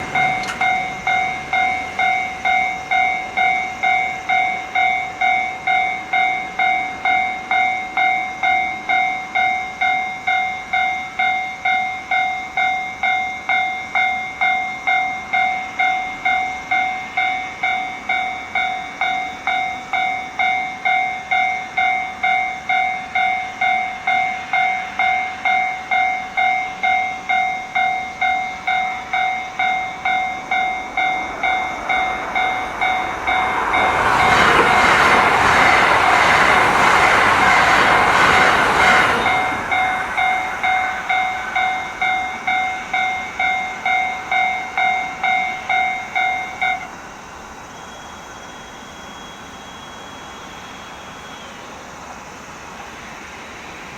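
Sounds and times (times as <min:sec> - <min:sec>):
level crossing warning bell: 0:00.0 - 0:47.6.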